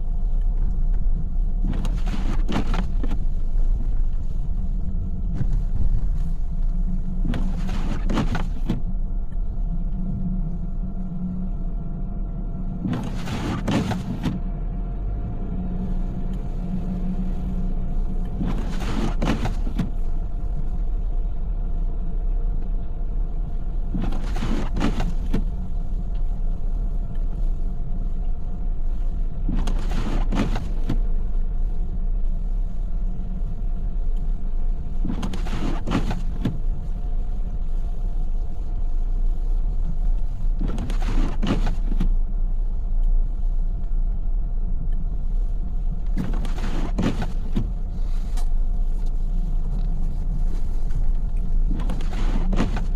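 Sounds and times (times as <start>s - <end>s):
road and engine rumble: 0.0s - 52.9s
windshield wipers sweeping: 0.0s - 52.9s.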